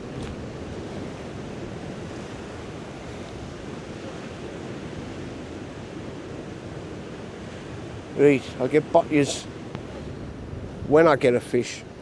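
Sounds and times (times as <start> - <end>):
surf on rocky shore: 0.0 - 12.0
wind: 0.0 - 12.0.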